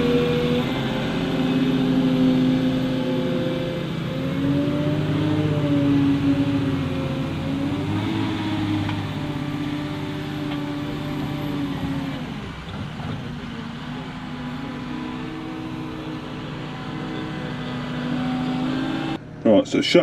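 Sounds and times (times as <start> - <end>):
wheel loader diesel engine: 0.0 - 19.6.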